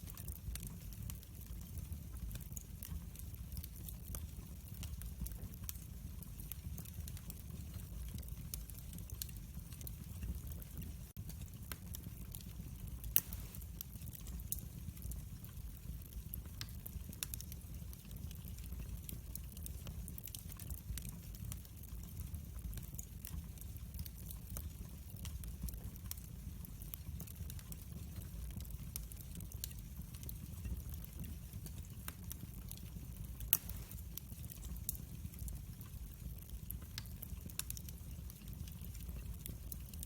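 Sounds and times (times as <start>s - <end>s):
fire popping: 0.0s - 40.0s
wood fire crackling: 0.0s - 40.0s.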